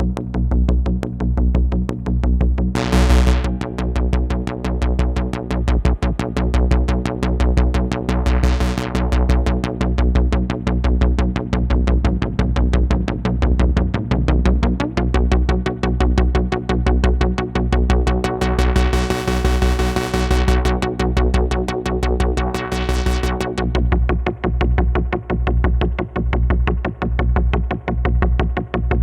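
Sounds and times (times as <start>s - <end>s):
pulsing bass beat: 0.0s - 29.0s.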